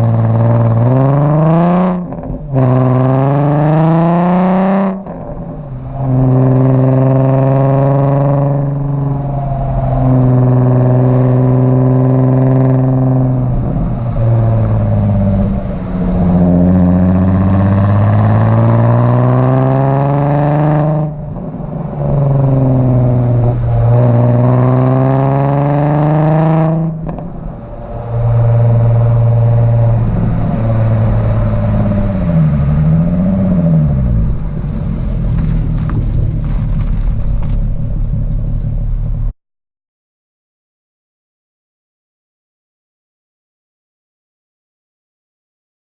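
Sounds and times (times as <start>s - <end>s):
car engine under load: 0.0s - 39.3s.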